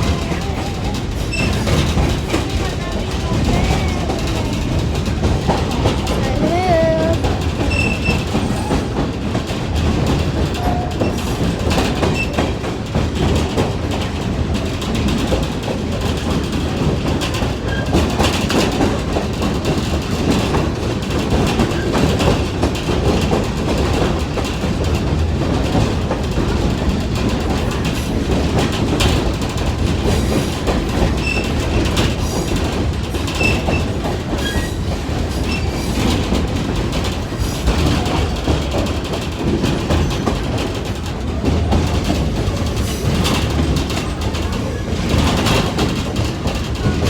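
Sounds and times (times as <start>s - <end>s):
train wheels rattling on rails: 0.0s - 47.0s.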